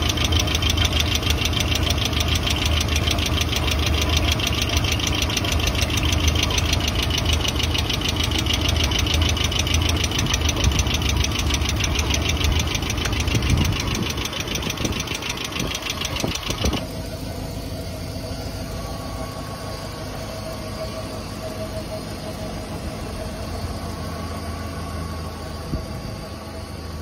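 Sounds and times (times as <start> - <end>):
car engine idling: 0.0 - 27.0
fast engine ticking: 0.0 - 27.0.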